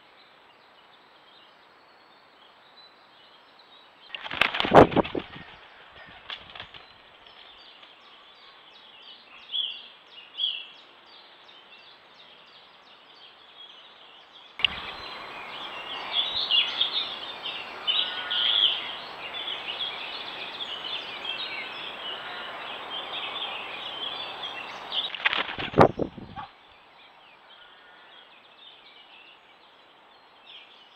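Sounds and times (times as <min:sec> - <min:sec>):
songbirds chirping: 0:00.0 - 0:30.9.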